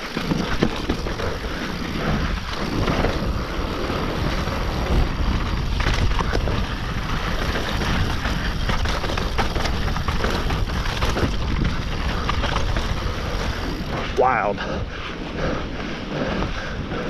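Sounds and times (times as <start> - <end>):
bike clattering over rough ground: 0.0 - 17.0
bike tyres rolling on dirt: 0.0 - 17.0
wind noise on microphone: 0.0 - 17.0.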